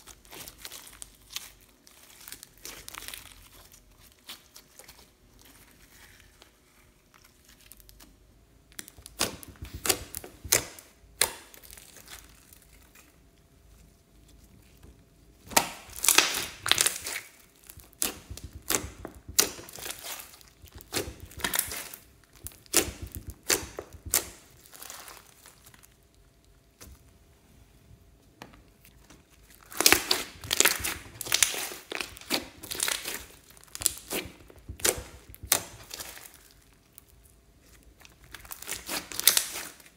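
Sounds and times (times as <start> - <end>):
slime squished by hand: 0.0 - 13.3, 14.3 - 27.0, 28.6 - 39.9.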